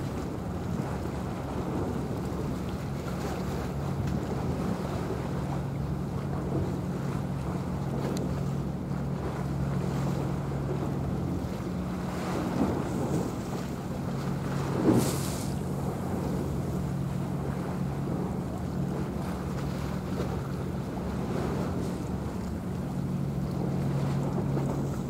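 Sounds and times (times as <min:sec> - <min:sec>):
sea wash: 0:00.0 - 0:25.0
ship engines droning: 0:00.0 - 0:25.0.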